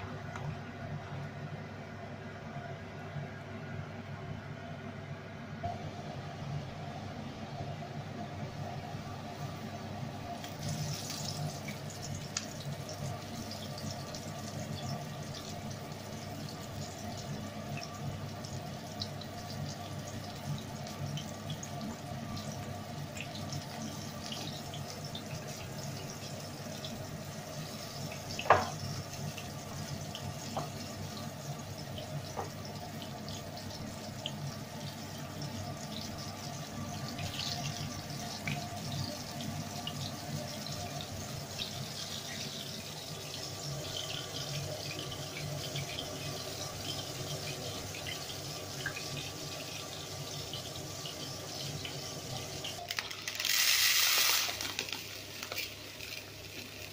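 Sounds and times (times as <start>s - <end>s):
fish sizzling in hot oil: 10.4s - 56.9s.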